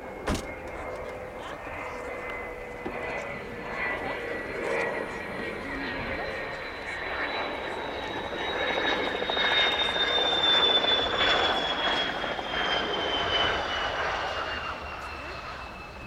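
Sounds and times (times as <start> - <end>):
jet roar with turbine whine: 0.0 - 16.0.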